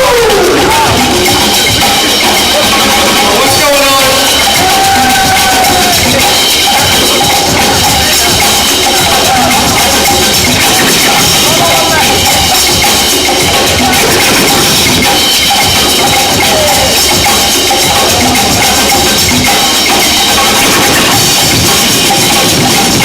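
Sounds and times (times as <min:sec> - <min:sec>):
loud percussive music: 0:00.0 - 0:23.0.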